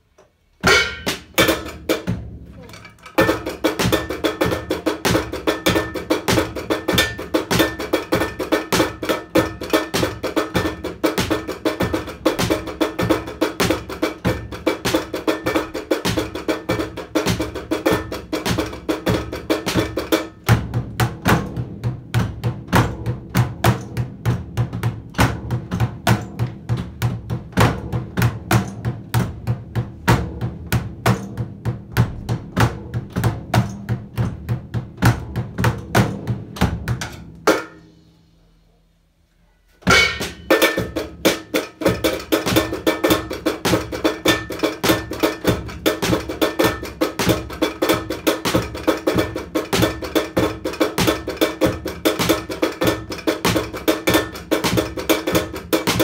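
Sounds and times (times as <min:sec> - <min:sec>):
drum kit playing a steady beat: 0:00.6 - 0:38.2, 0:39.8 - 0:56.0.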